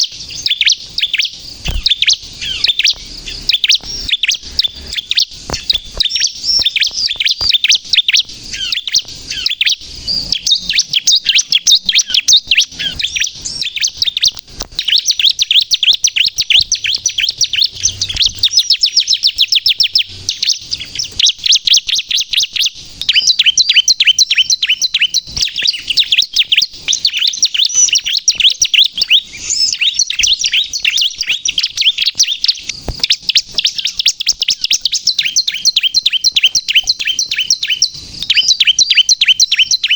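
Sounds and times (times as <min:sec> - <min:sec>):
bird singing quick high chirps: 0:00.0 - 0:39.9.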